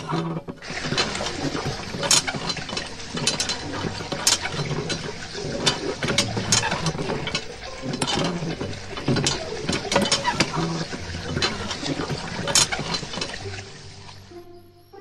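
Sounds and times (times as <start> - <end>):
hand pump plastic clicks: 0.0 - 14.2.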